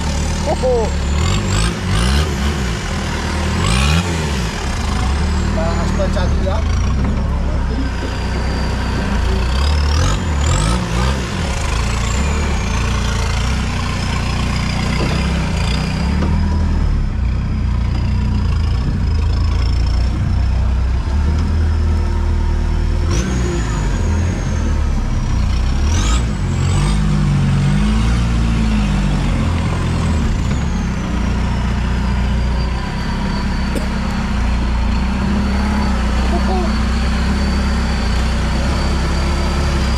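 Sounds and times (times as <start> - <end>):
engine revving under load: 0.0 - 39.9.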